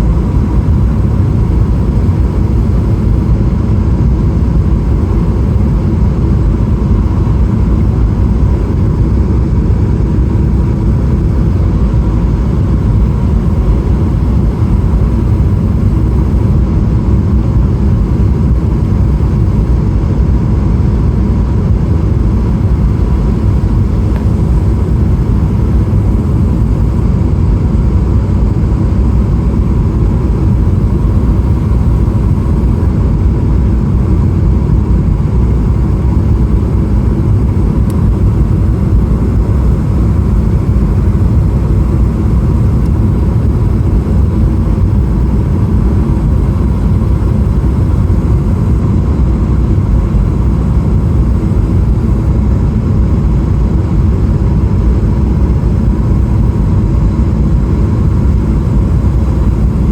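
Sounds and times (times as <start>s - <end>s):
engine and airflow rumble: 0.0s - 59.9s
faint steady whine: 0.0s - 59.9s.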